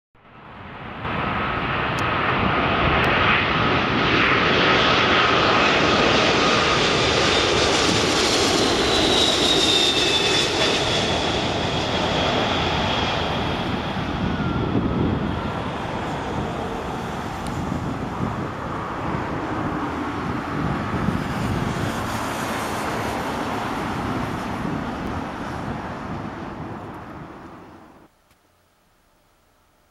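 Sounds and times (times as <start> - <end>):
jet airliner rumble with fan whine: 0.3 - 28.1.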